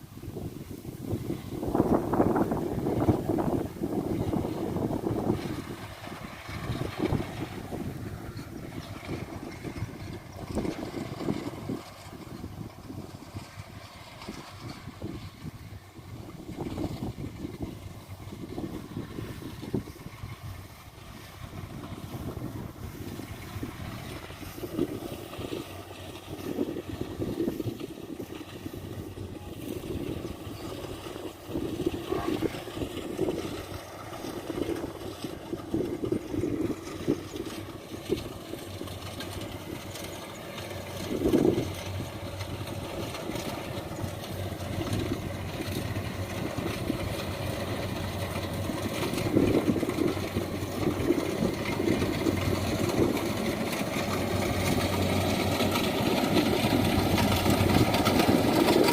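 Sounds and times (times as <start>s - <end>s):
combine harvester engine running: 0.0s - 58.9s.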